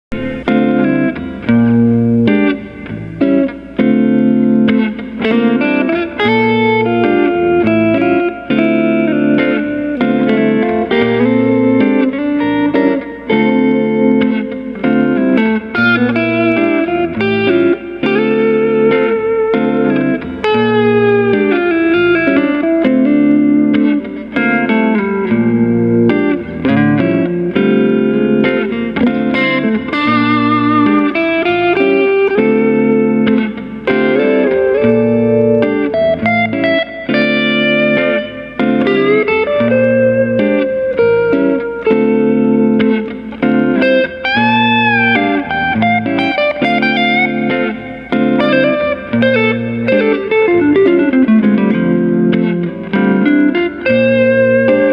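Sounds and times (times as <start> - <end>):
electric guitar playing: 0.0 - 54.9.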